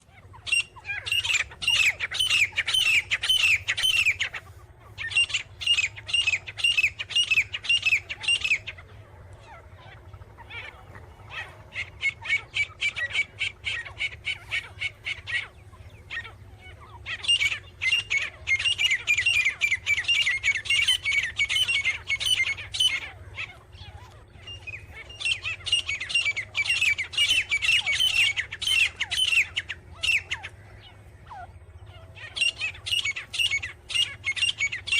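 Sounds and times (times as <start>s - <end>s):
bird shrill repeated calls: 0.0s - 34.9s.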